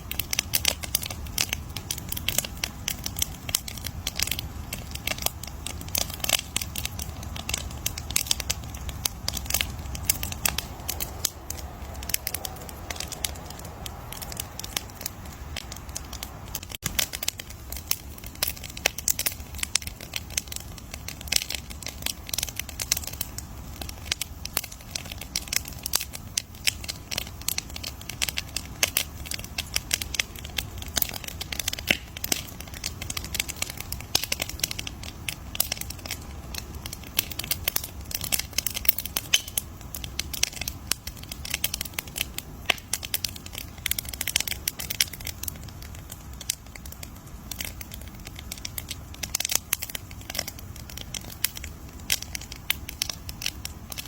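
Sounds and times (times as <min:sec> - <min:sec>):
low rumble of burning: 0:00.0 - 0:54.0
wood fire crackling: 0:00.0 - 0:54.0.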